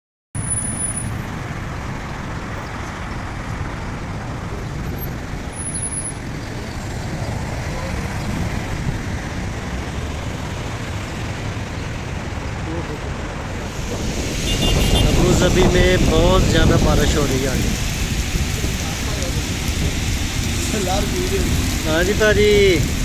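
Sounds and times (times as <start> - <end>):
heavy rain: 0.4 - 23.0
road traffic noise: 0.4 - 23.0.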